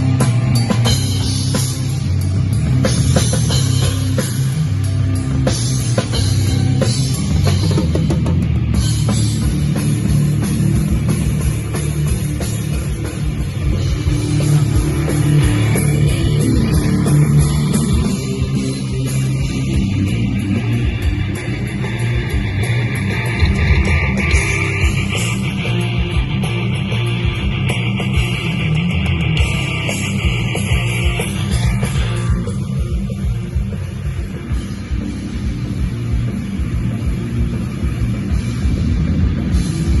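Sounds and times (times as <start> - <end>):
electric guitars: 0.0 - 40.0
pounding drum kit: 0.0 - 40.0
rock band playing live: 0.0 - 40.0.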